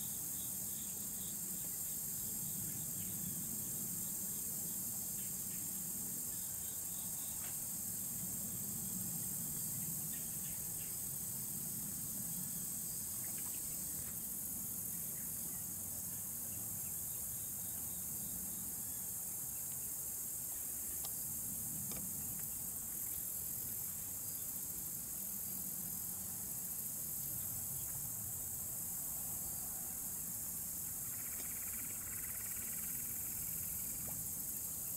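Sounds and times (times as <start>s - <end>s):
high-pitched insect chorus: 0.0s - 34.9s.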